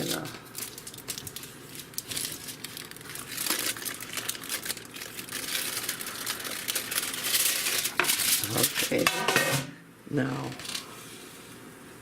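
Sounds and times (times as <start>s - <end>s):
wrapping crinkling and crackling: 0.0s - 9.1s, 10.4s - 11.5s.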